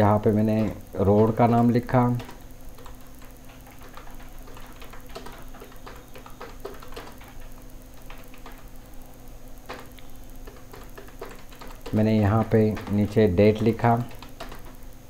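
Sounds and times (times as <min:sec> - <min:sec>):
faint steady hum: 0:00.0 - 0:15.0
keyboard keys clicking: 0:00.5 - 0:08.7, 0:09.7 - 0:14.8.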